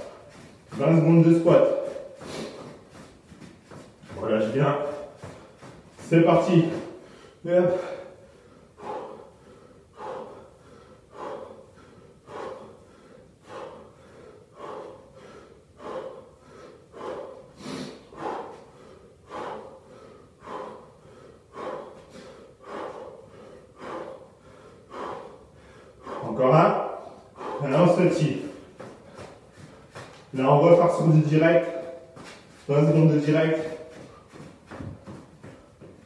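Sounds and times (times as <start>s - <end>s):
man breathing hard: 0.0s - 36.0s.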